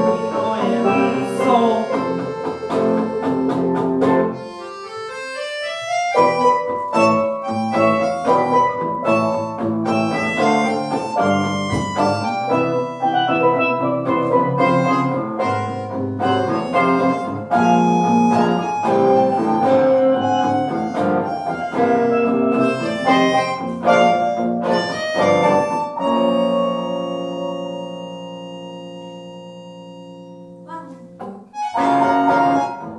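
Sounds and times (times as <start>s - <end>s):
live instrumental band music: 0.0s - 32.9s.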